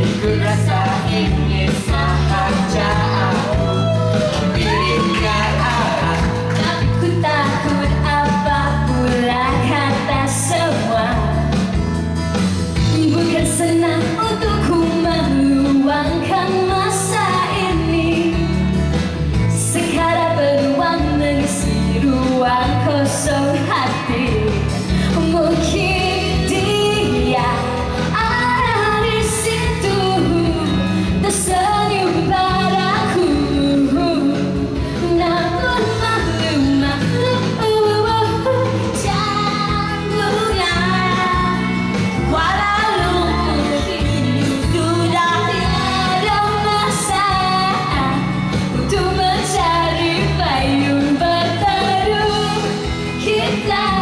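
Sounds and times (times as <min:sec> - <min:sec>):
woman singing into microphone: 0:00.0 - 0:11.9, 0:12.8 - 0:54.0
pop accompaniment: 0:00.0 - 0:54.0.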